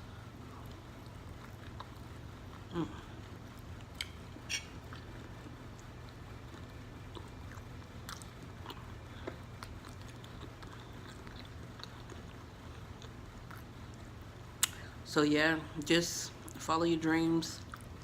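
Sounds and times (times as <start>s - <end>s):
faint low hum: 0.0s - 18.0s
person chewing food: 0.3s - 14.8s.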